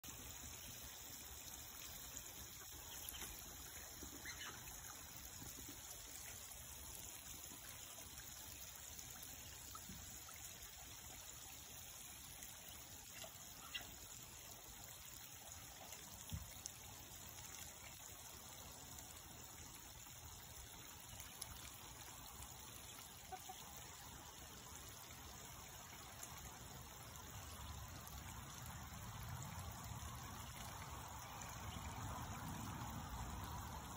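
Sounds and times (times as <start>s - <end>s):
small water splashes: 0.0s - 33.9s
water trickling: 0.0s - 33.9s
ducks dabbling in water: 0.1s - 33.9s.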